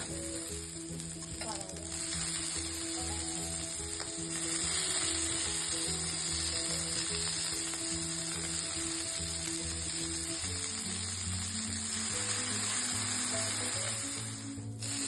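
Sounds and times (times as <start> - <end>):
food sizzling in a hot pan: 0.0 - 15.0
soft background music: 0.0 - 15.0.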